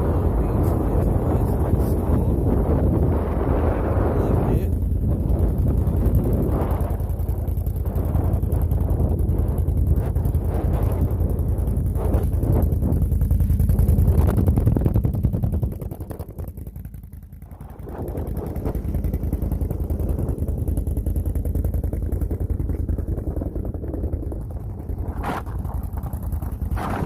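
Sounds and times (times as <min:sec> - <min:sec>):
small vehicle engine running: 0:00.0 - 0:27.0
wind buffeting microphone: 0:00.0 - 0:27.0.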